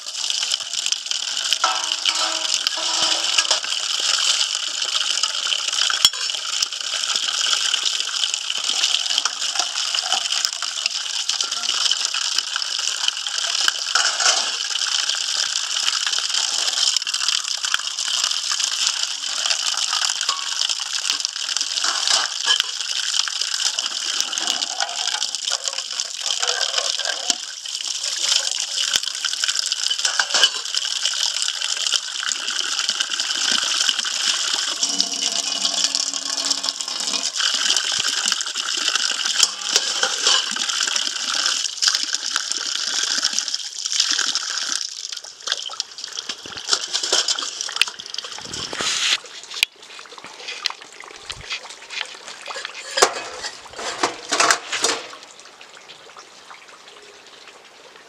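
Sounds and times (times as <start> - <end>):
water gushing: 0.0 - 58.0.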